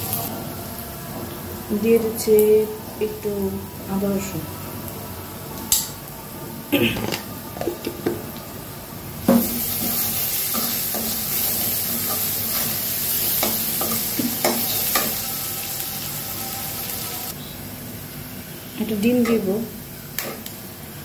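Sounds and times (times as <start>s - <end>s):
onions sizzling in hot oil: 0.0s - 6.2s, 7.2s - 21.0s.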